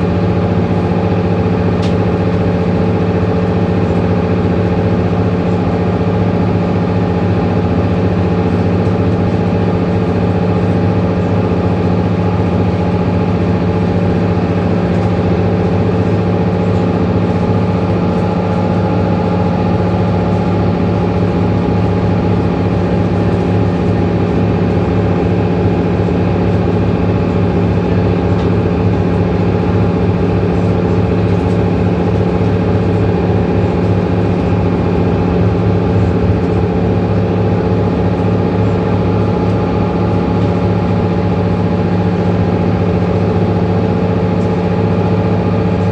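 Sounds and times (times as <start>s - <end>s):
bus engine droning: 0.0s - 45.9s.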